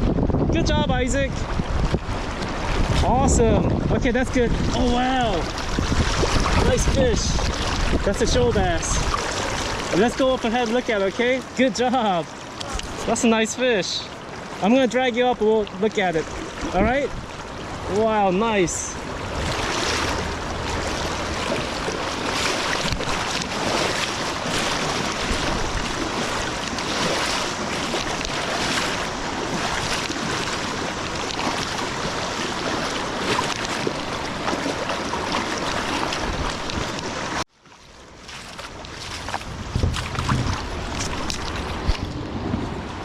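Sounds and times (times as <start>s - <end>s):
wind buffeting microphone: 0.0s - 11.0s, 16.2s - 37.4s, 38.5s - 43.0s
river water rushing and splashing: 0.0s - 43.0s.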